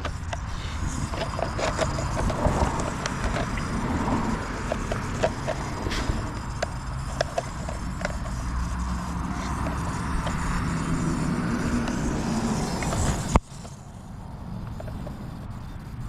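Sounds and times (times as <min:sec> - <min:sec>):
sharp clicks: 0:00.0 - 0:13.8
rc helicopter motor humming: 0:00.0 - 0:16.0.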